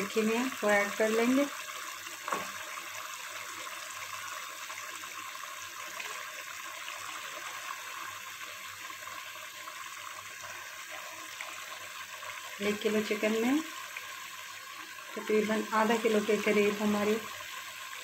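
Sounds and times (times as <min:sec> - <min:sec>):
pot sizzling on stove: 0:00.0 - 0:18.0.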